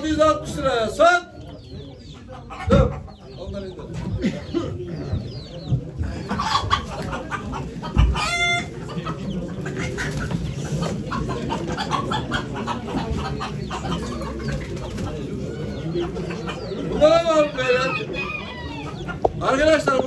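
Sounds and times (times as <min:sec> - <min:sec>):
chickens clucking and squawking: 0:00.0 - 0:20.0.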